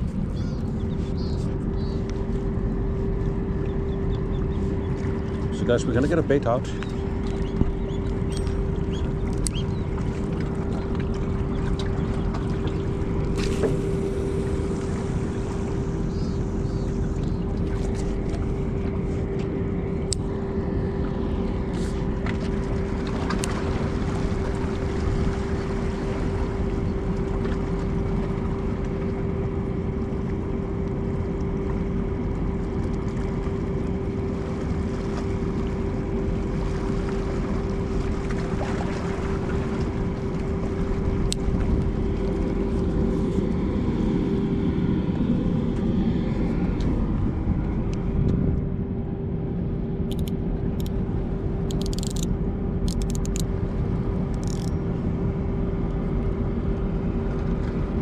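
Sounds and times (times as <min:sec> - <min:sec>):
ship engine drone: 0:00.0 - 0:58.0
water noise: 0:00.0 - 0:58.0
wind: 0:00.0 - 0:58.0.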